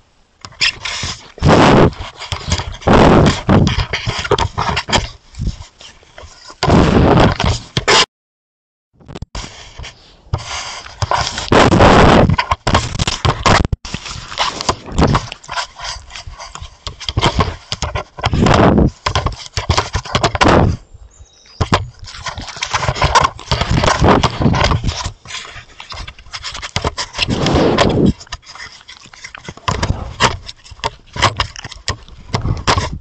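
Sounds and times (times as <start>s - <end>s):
fur scraping on camera: 0.6s - 8.0s, 9.4s - 20.8s, 21.9s - 33.0s.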